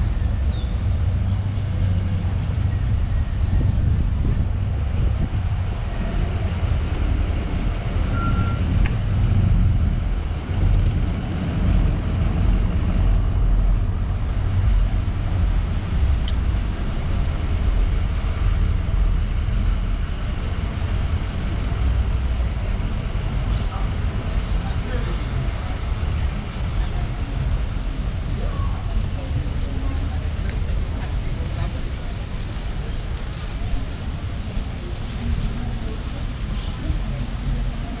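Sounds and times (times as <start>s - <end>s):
loud uneven low rumble: 0.0s - 38.0s
urban traffic noise: 0.0s - 38.0s.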